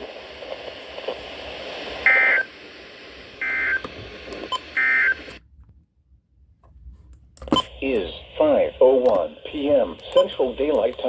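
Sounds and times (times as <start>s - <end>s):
radio receiver hiss: 0.0s - 5.4s, 7.4s - 11.0s.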